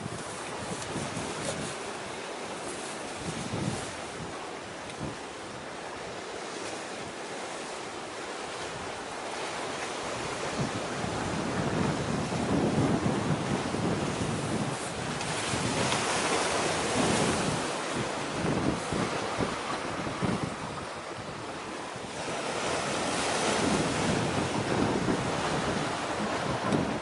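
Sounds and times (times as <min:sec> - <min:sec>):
sea wash: 0:00.0 - 0:27.0
wind buffeting microphone: 0:00.0 - 0:27.0.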